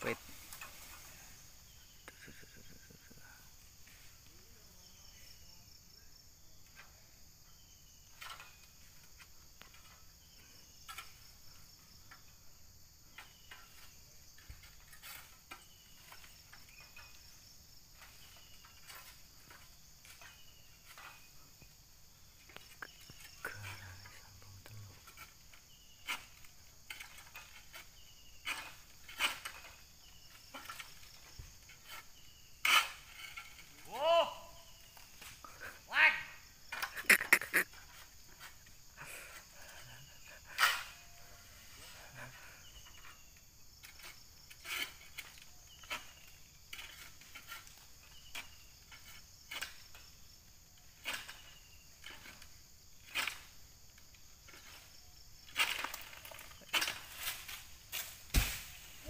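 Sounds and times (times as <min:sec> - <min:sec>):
insects droning with pulsing beat: 0:00.0 - 0:59.0.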